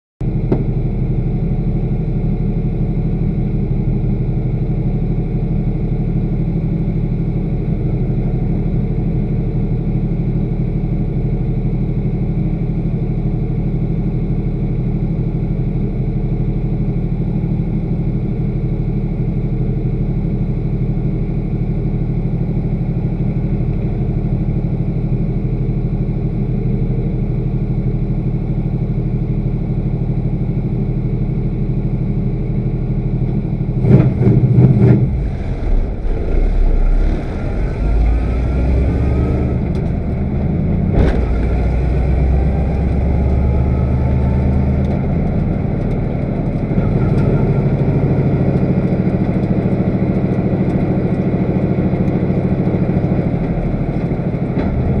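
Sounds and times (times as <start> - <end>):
race car engine idling: 0.2 - 55.0.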